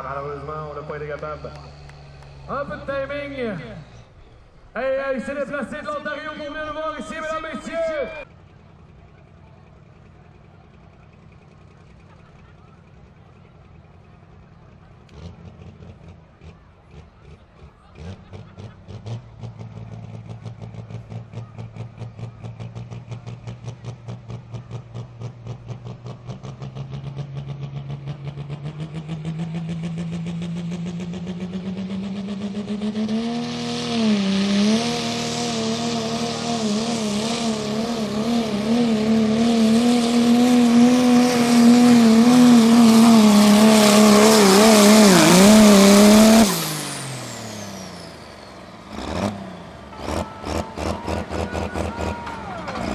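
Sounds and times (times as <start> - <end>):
diesel truck engine revving: 0.0 - 52.9.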